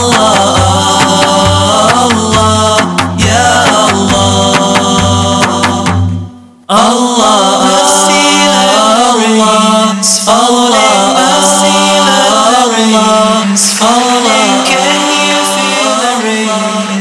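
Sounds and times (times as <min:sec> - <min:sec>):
person chanting unaccompanied: 0:00.0 - 0:17.0.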